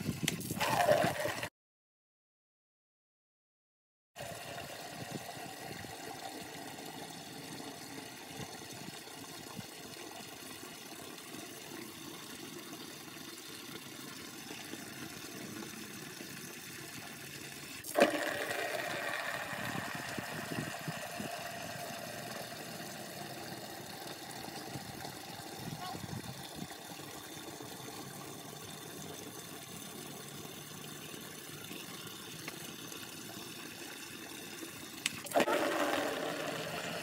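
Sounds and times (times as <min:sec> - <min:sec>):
tap water running: 0:04.2 - 0:37.0.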